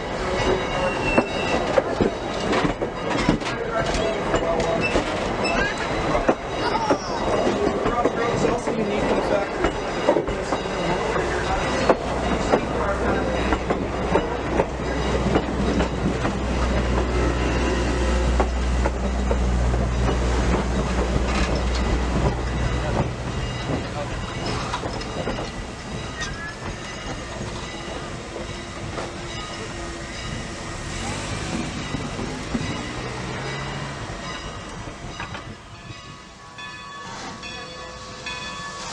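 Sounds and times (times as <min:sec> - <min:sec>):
train wheels clicking on rails: 0:00.0 - 0:38.9.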